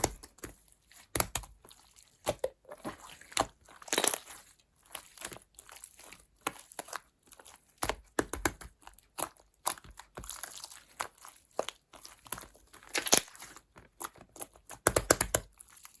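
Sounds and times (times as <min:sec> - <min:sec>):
crinkling and crackling: 0:00.0 - 0:16.0.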